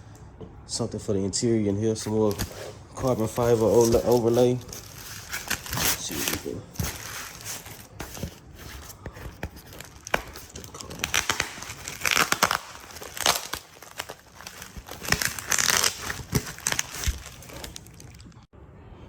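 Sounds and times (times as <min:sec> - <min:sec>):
packaging crinkling and tearing: 0:02.0 - 0:18.5.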